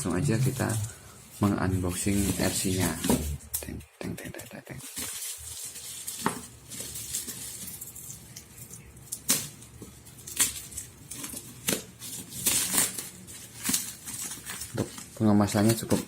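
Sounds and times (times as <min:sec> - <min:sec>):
packing rustling: 0:00.0 - 0:03.4, 0:04.8 - 0:16.0.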